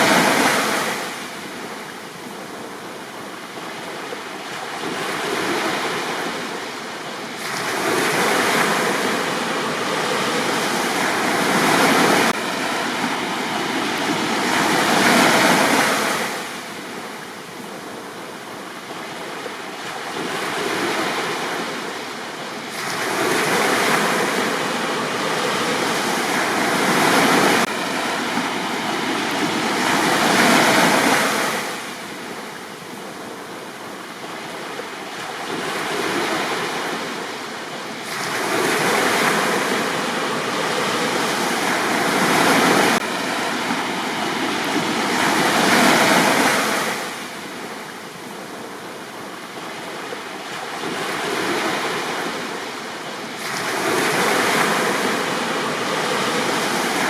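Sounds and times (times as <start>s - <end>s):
sea waves washing up beach: 0.0s - 57.0s.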